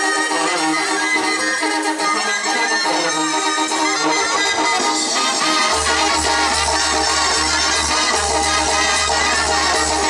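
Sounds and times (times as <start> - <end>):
loud dance music with heavy bass: 0.0 - 10.0.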